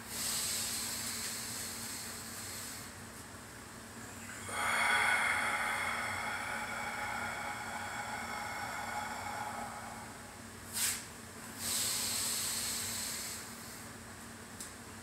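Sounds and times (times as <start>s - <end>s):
man breathing: 0.0s - 3.0s, 4.3s - 14.0s.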